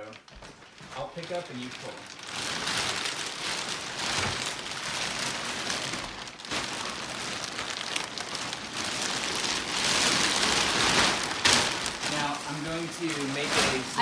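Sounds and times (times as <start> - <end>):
plastic wrapping rustling: 0.0 - 14.0.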